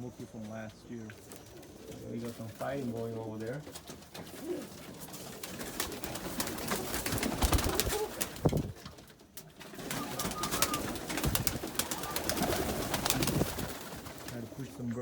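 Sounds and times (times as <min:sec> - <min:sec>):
pigeons cooing: 0:00.0 - 0:08.8, 0:09.5 - 0:15.0
birds tapping and scuffling: 0:00.0 - 0:15.0.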